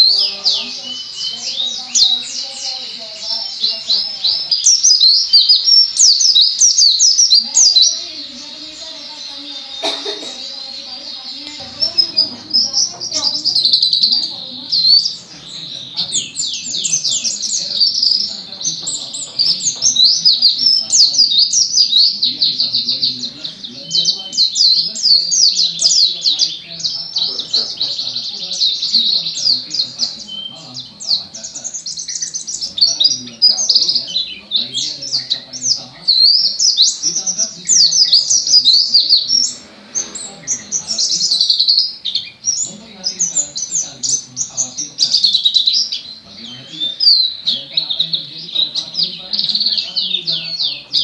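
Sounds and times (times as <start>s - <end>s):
bird singing fast chirps: 0.0s - 51.0s.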